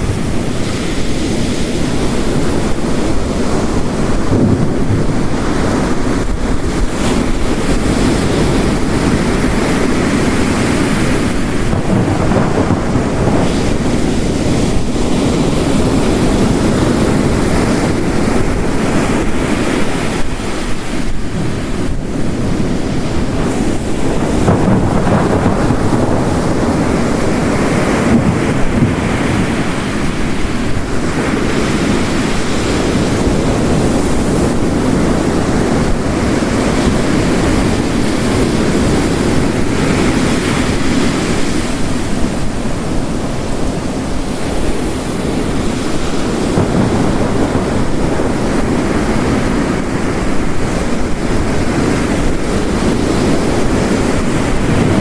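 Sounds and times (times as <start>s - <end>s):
heavy rain: 0.0s - 55.0s
ocean waves crashing on rocks: 0.0s - 55.0s.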